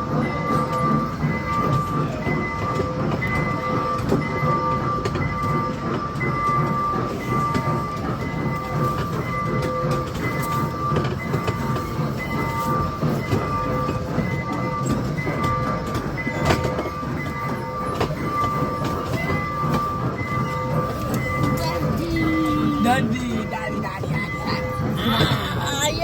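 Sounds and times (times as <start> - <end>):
mall train low rumble: 0.0 - 26.0.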